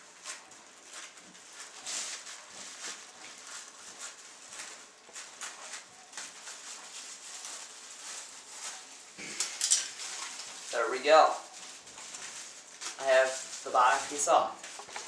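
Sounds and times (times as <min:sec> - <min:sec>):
plastic crinkling: 0:00.0 - 0:15.0.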